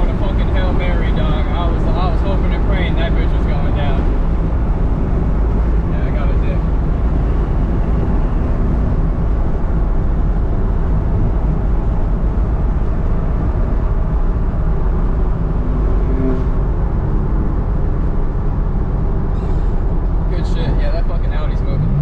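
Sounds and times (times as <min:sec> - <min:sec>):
car engine drone: 0:00.0 - 0:22.0
road noise: 0:00.0 - 0:22.0.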